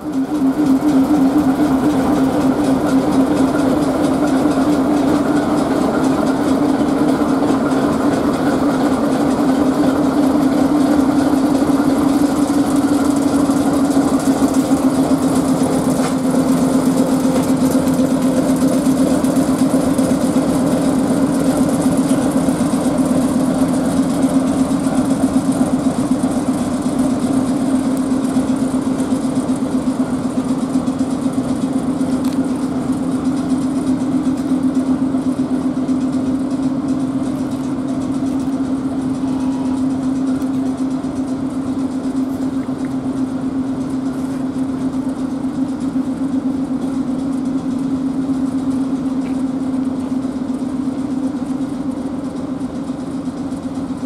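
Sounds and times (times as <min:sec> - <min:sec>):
diesel locomotive engine throbbing: 0:00.0 - 0:54.0.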